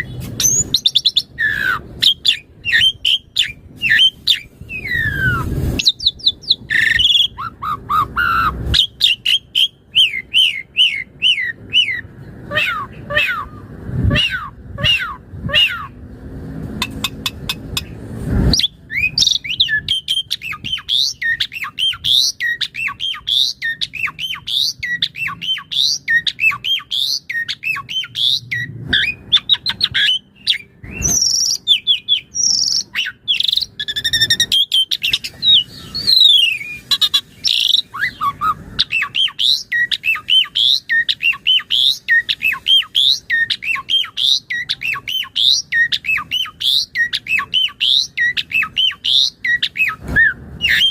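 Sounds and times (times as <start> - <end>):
starling singing: 0.0 - 16.1, 16.8 - 50.9.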